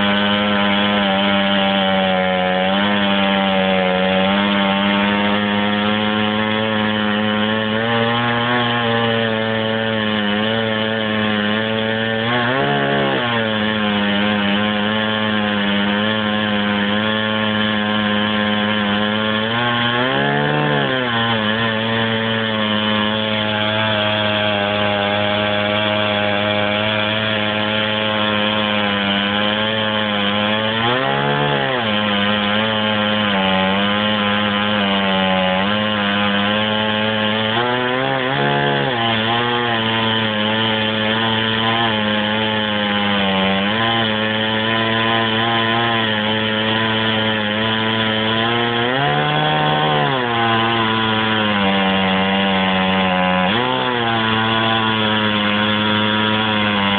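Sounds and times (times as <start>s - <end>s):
chainsaw cutting through log: 0.0s - 56.9s.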